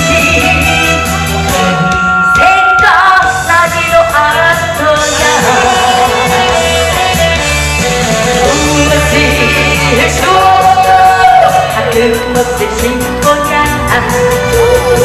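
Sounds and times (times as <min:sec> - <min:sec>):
woman singing into a microphone: 0:00.0 - 0:07.2, 0:08.3 - 0:15.0
amplified instrumental accompaniment: 0:00.0 - 0:15.0.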